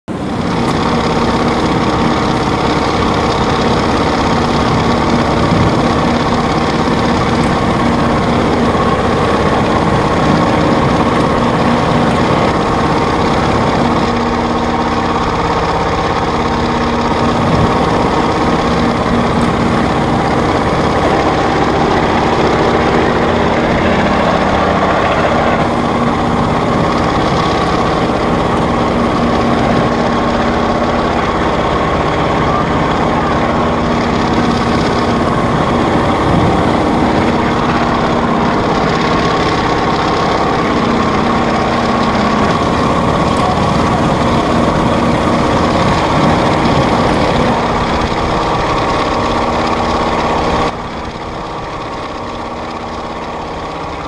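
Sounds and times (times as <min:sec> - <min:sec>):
propeller aircraft engines humming: 0:00.0 - 0:54.0.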